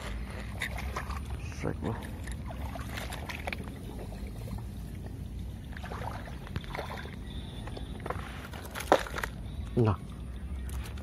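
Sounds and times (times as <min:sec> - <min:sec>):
rustling and splashing in swamp: 0:00.0 - 0:11.0.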